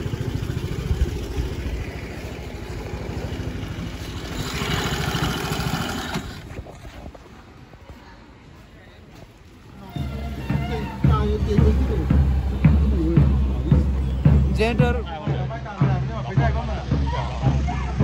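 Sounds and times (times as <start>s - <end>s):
vehicle engine running: 0.0s - 6.6s, 9.8s - 18.0s.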